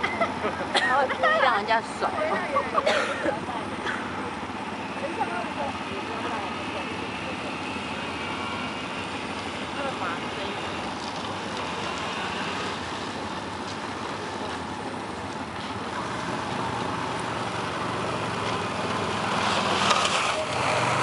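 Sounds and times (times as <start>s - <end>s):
towing vehicle engine: 0.0s - 21.0s.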